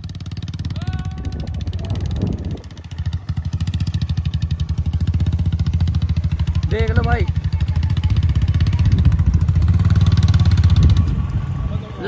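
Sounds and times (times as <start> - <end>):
motorcycle engine running under load: 0.0 - 12.0.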